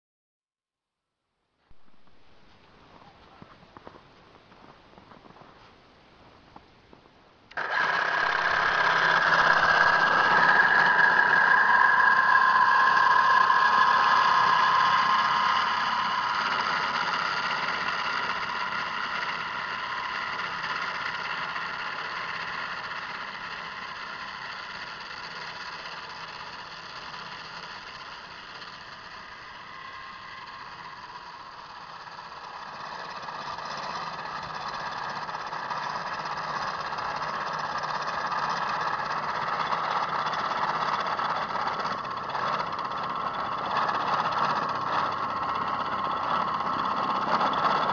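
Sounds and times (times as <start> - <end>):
electric snow thrower motor whining: 7.5 - 47.9.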